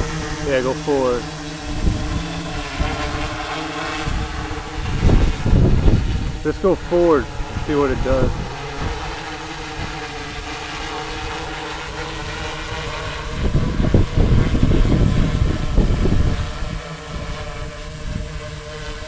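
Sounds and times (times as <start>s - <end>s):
drone motors humming in flight: 0.0s - 19.0s.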